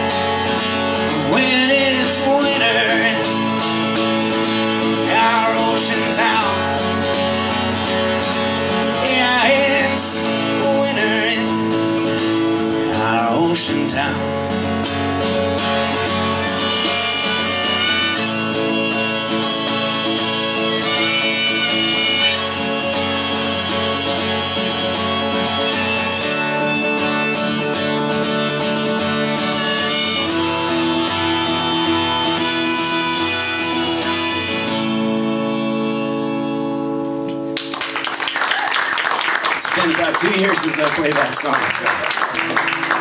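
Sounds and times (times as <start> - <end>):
harmonica melody: 0.0 - 13.5, 14.1 - 37.6
strummed acoustic guitar: 0.0 - 37.7.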